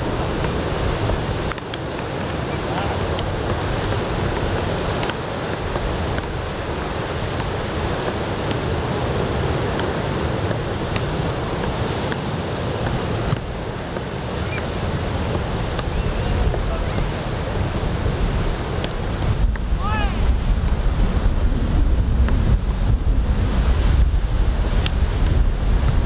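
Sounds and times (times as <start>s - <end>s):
ocean surf on beach: 0.0s - 26.0s
wind buffeting microphone: 0.0s - 26.0s.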